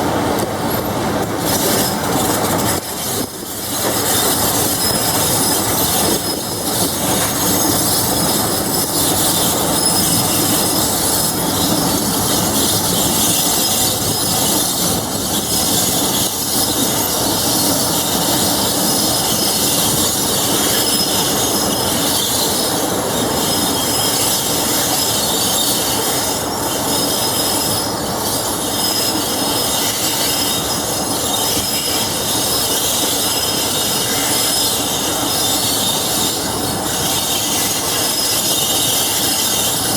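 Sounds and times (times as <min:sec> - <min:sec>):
rail-joint clatter: 0:00.0 - 0:39.9
train brakes squealing: 0:00.0 - 0:39.9
train rolling noise: 0:00.0 - 0:39.9.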